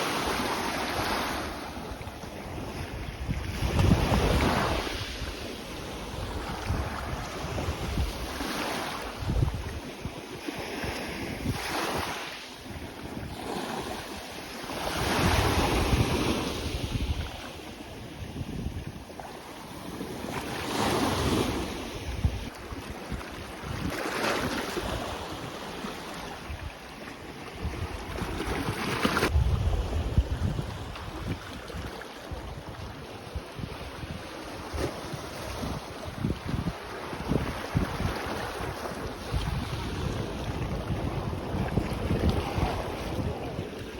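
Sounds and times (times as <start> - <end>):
sea waves breaking on beach: 0.0 - 43.9
wind rumbling on microphone: 0.9 - 14.1, 14.7 - 19.2, 21.0 - 43.9.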